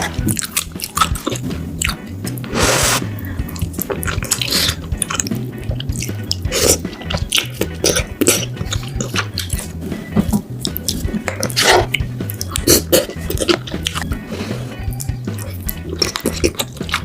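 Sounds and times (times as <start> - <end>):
mouth smacks and clicks: 0.0 - 14.2, 14.8 - 17.0
wet chewing mouth sounds: 0.0 - 17.0.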